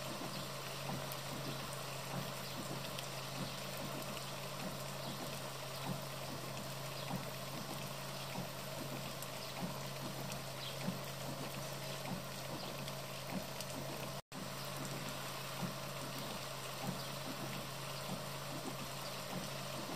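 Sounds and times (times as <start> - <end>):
rain and running water: 0.0 - 19.9
water drips ticking: 0.0 - 19.9.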